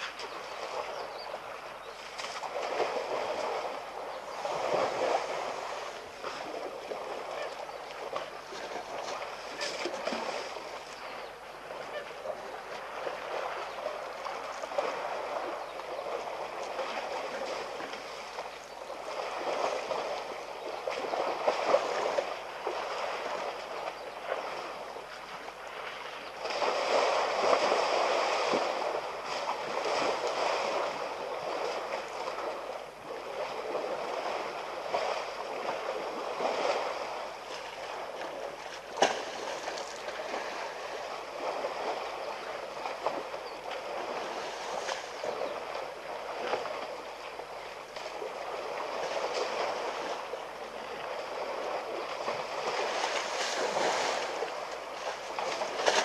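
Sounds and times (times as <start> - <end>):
water and mud sloshing: 0.0 - 56.0.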